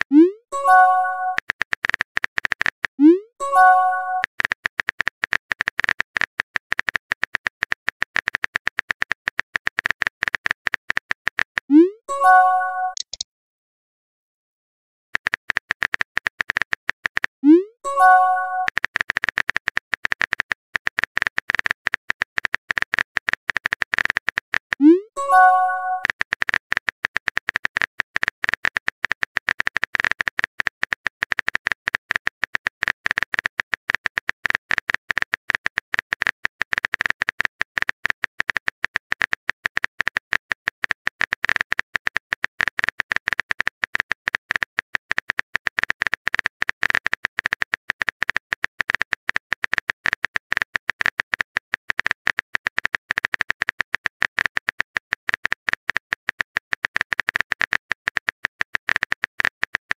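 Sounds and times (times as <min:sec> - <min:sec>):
rapid keyboard typing clicks: 0:00.0 - 0:13.2, 0:15.2 - 0:59.9.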